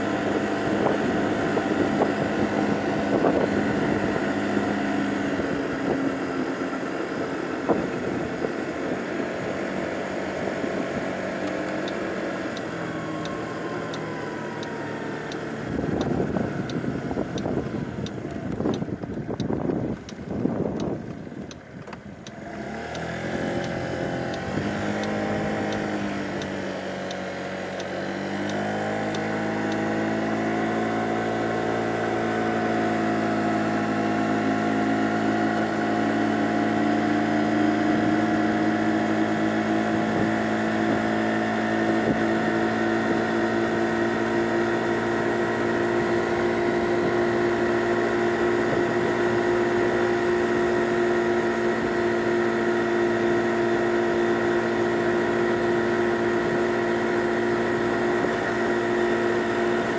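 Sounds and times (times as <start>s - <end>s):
scooter engine running: 0.0s - 59.9s.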